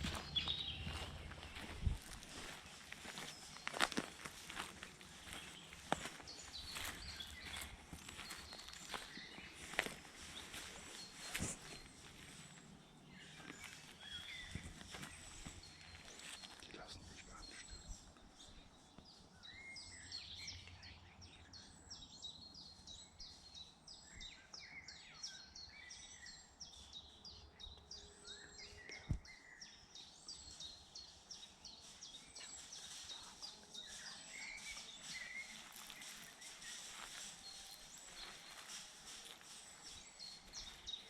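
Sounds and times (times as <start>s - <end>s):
birds chirping and trilling: 0.0s - 41.0s.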